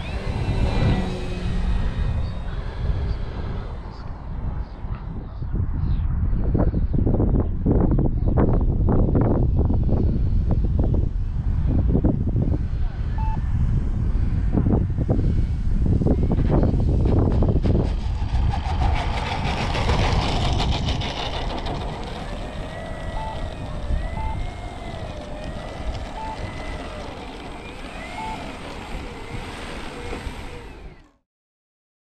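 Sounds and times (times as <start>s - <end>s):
wind buffeting microphone: 0.0s - 31.1s.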